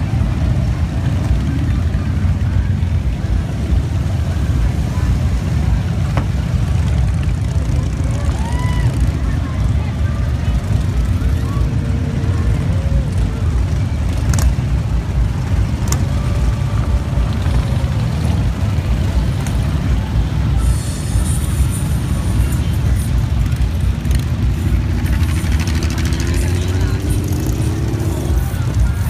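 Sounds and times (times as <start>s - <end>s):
motorcycles rumbling past: 0.0s - 29.0s.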